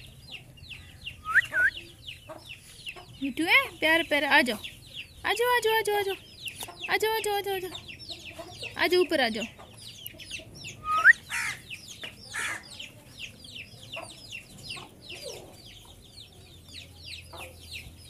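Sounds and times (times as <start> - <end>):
chickens peeping: 0.0 - 18.0.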